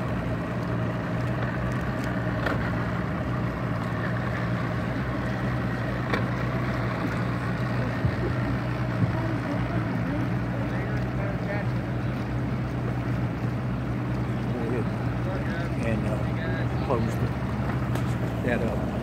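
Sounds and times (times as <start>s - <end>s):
outboard motor idling: 0.0s - 19.0s
water noise: 0.0s - 19.0s.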